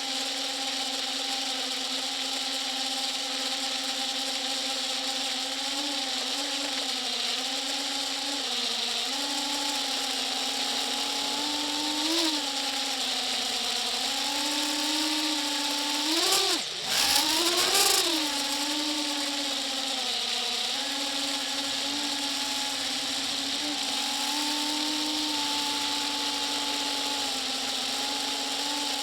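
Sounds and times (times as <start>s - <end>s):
motor running steadily: 0.0s - 29.0s.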